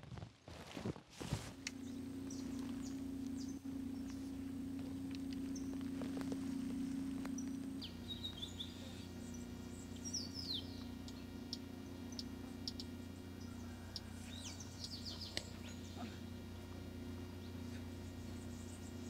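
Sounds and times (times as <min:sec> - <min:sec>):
steady low hum: 0:01.2 - 0:19.0
birds chirping: 0:01.5 - 0:19.0.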